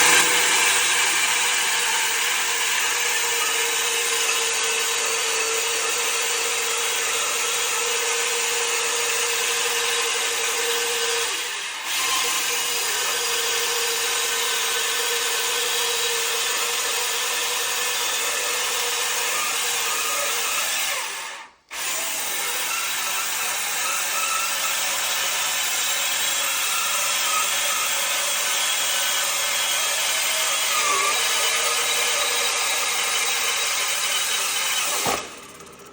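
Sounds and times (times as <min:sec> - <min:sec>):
bandsaw sawing through timber: 0:00.0 - 0:35.9.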